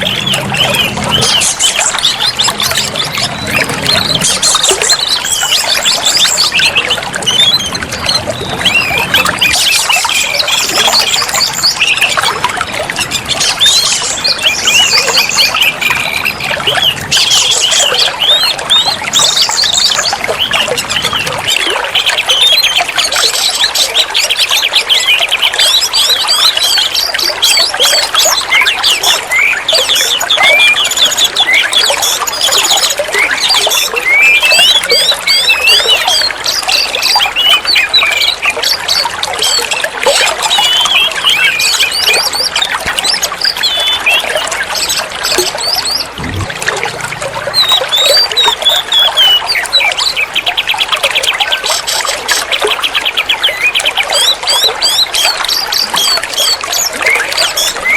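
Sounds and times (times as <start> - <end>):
bird singing rapid chirps and trills: 0.0 - 57.9.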